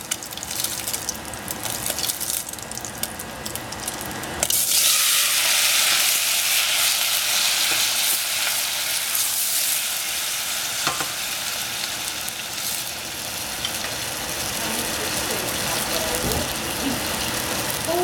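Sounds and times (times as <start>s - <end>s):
tomatoes sizzling in hot oil: 0.0s - 18.0s.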